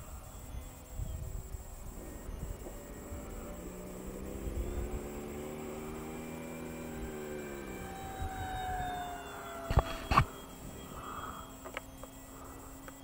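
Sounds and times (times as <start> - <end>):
electric ducted fans whining: 0.0 - 13.0.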